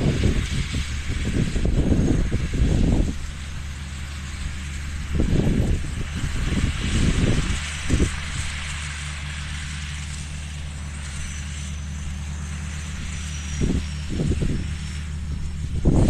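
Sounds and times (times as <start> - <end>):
wind buffeting microphone: 0.0 - 10.1, 12.1 - 16.0
engine running steadily: 0.0 - 16.0.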